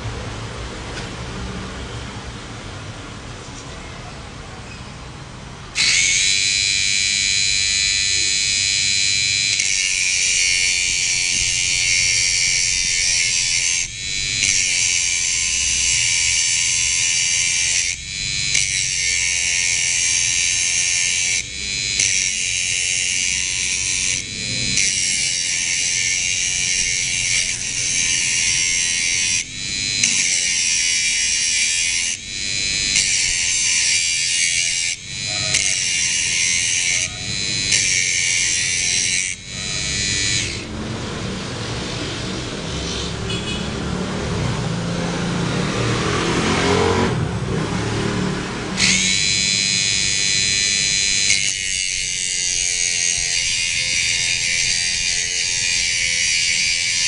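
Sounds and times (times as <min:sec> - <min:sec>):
electric grinder whining: 0:05.7 - 0:57.0.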